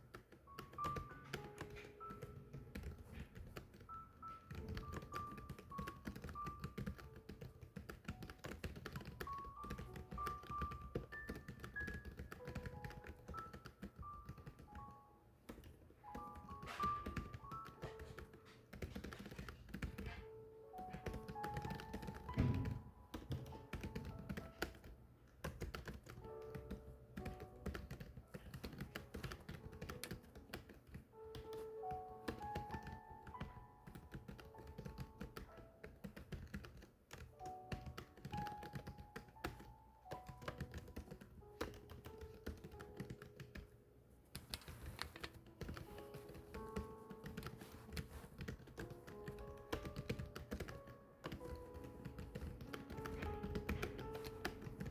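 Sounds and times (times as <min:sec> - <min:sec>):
rapid keyboard typing: 0:00.0 - 0:54.9
soft background music: 0:00.0 - 0:54.9.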